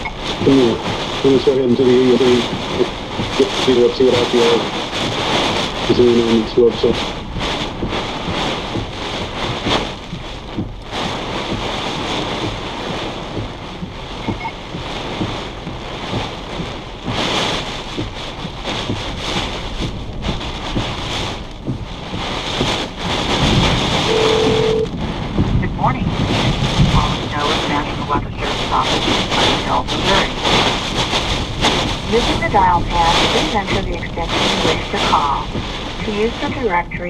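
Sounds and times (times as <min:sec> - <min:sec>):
rain on a car: 0:00.0 - 0:37.0
wind buffeting a car: 0:00.0 - 0:37.0.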